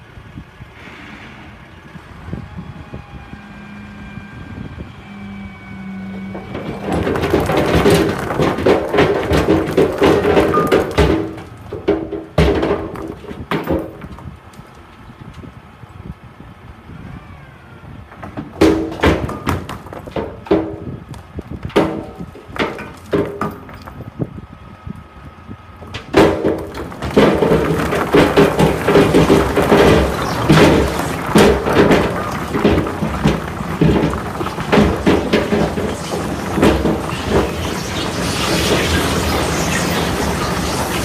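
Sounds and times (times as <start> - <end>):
truck engine rumble: 0.0 - 41.0
boulders tumbling from dump truck: 1.8 - 41.0.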